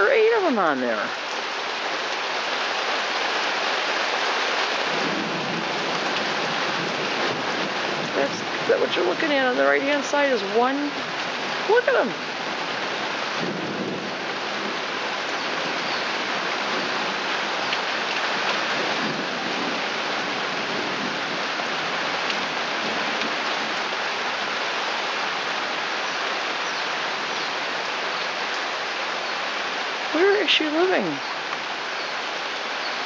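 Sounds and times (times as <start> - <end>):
heavy rain on wooden deck: 0.0 - 33.0.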